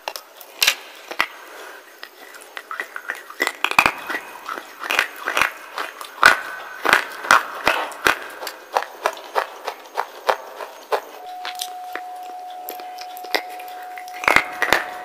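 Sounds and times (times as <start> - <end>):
crunching and chewing: 0.0 - 15.0.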